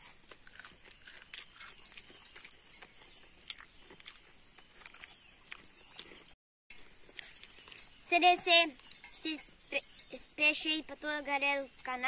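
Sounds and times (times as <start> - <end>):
person chewing with faint crunching: 0.0 - 10.2.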